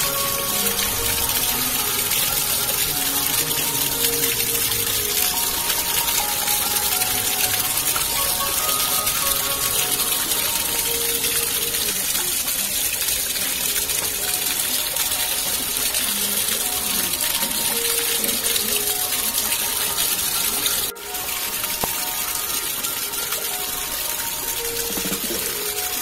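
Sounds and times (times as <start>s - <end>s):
water gushing and splashing: 0.0s - 26.0s.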